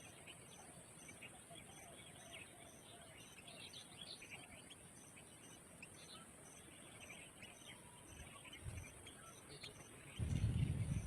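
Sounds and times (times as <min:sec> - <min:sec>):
small bird chirps: 0:00.0 - 0:11.0.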